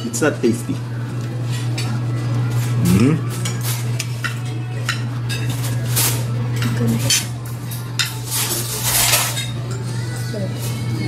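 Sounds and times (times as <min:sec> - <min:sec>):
cutlery clinking and scraping plates: 0:01.4 - 0:11.0.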